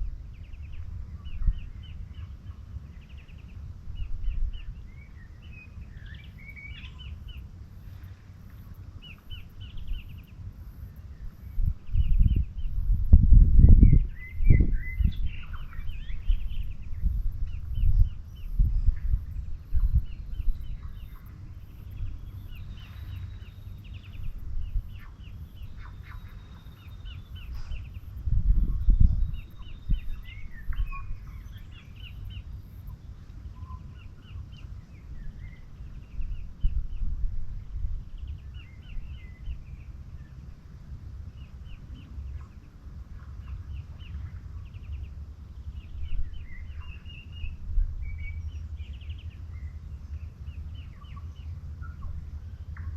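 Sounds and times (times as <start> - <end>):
small birds chirping and trilling: 0.0 - 52.9
wind buffeting microphone: 0.0 - 52.9.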